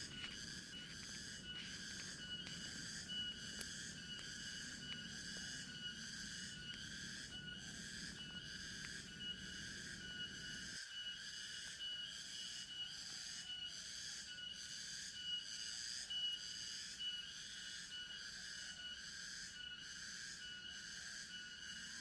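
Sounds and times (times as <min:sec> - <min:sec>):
insects buzzing and chirping: 0:00.0 - 0:22.0.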